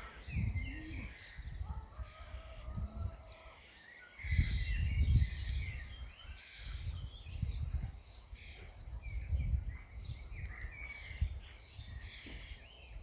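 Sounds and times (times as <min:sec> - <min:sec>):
birds chirping and whistling: 0:00.0 - 0:01.8, 0:02.4 - 0:13.0
wind rumble on microphone: 0:00.0 - 0:03.6, 0:04.2 - 0:13.0.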